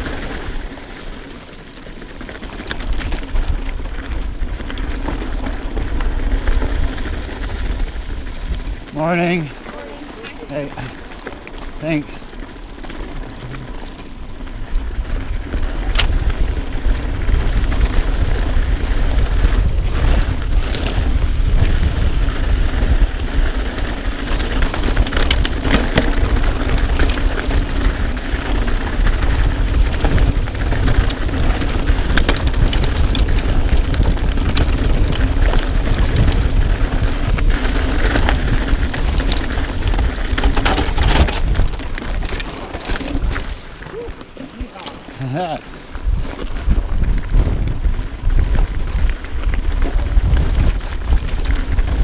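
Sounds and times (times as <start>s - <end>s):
bike rumbling down dirt trail: 0.0s - 52.0s
wind buffeting microphone: 2.5s - 52.0s.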